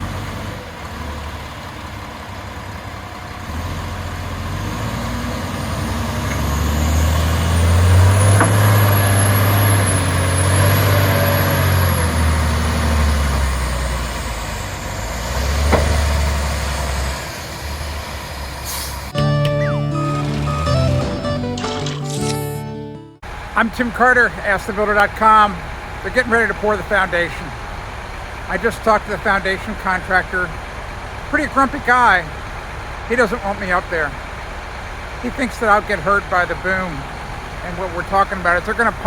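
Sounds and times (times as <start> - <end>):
diesel truck engine humming: 0.0 - 39.0.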